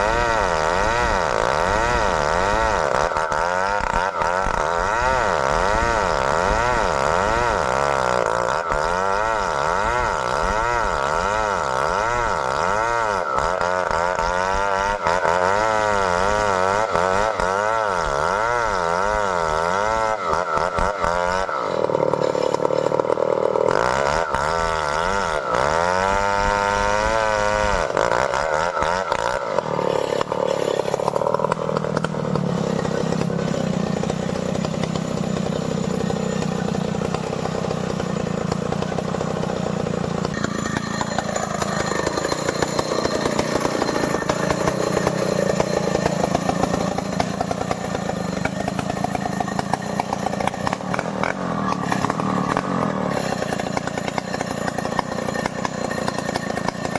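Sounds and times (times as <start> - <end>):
chainsaw revving and cutting wood: 0.0 - 56.9.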